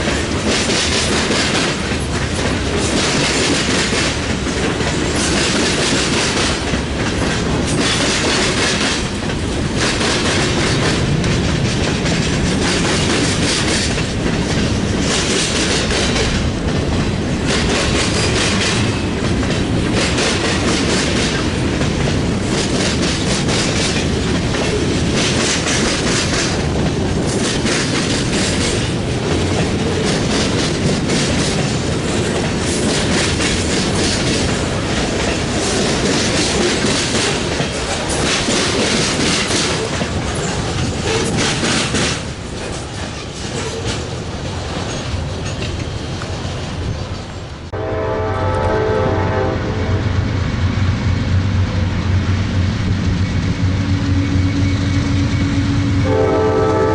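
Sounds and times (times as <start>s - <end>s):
freight train wheels clacking: 0.0s - 56.9s
train rumbling: 0.0s - 56.9s.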